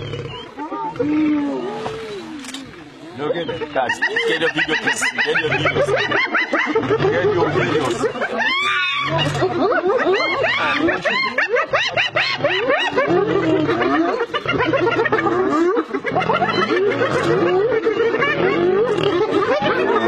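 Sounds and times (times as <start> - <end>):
hyenas giggling and cackling: 3.1 - 20.0.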